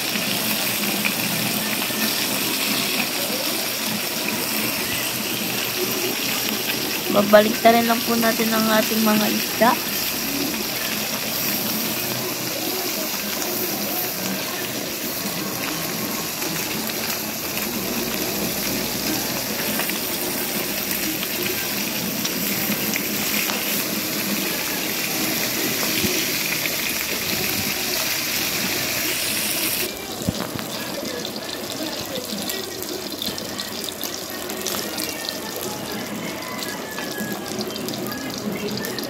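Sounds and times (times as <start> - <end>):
fish sizzling in hot oil: 0.0 - 39.0.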